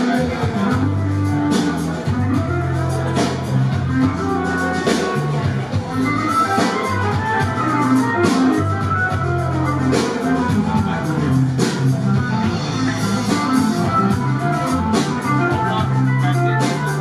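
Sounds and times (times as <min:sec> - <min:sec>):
bass line: 0:00.0 - 0:17.0
drum kit with cymbal crashes: 0:00.0 - 0:17.0
rock band playing live: 0:00.0 - 0:17.0.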